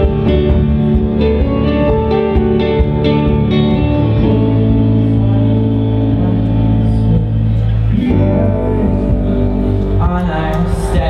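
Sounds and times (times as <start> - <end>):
bass guitar: 0.0 - 11.0
electric guitar chords: 0.0 - 11.0.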